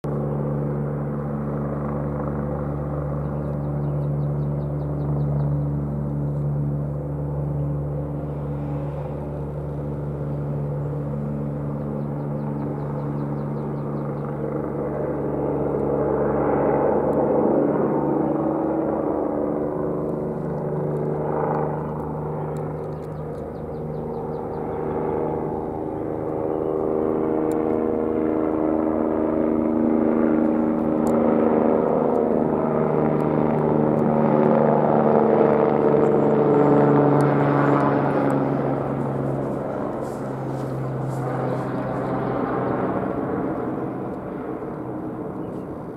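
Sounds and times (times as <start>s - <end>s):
helicopter taking off: 0.0s - 45.9s.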